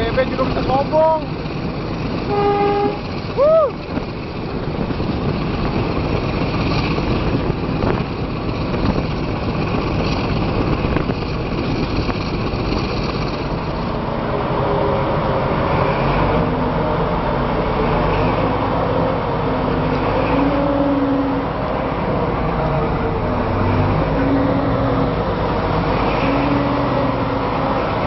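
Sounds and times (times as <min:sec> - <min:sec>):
diesel engine drone: 0:00.0 - 0:28.0
train rumbling and rattling: 0:00.0 - 0:28.0.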